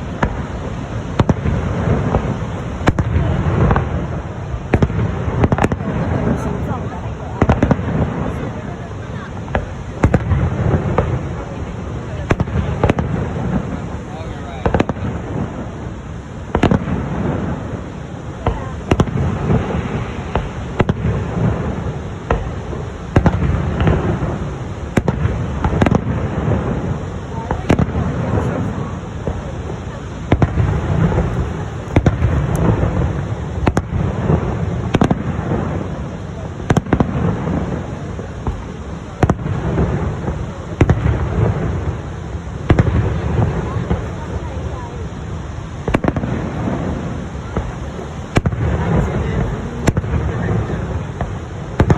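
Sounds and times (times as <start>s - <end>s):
steady low rumble: 0.0s - 22.2s, 22.9s - 51.9s
fireworks bangs: 0.0s - 51.9s.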